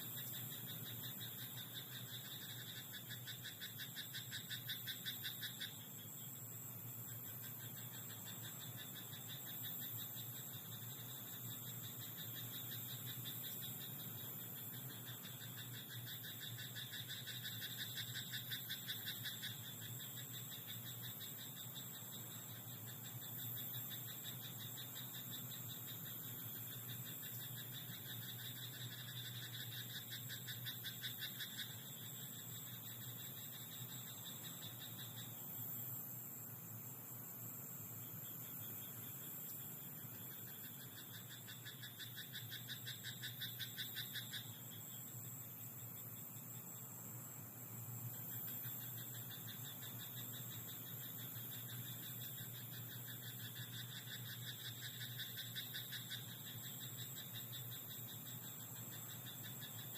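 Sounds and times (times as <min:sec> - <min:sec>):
frogs croaking: 0:00.0 - 0:59.9
steady high hiss: 0:00.0 - 0:59.9.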